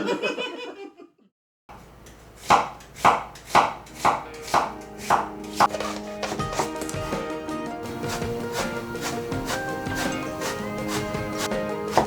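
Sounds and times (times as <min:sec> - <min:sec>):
knife chopping on cutting board: 0:02.2 - 0:12.0.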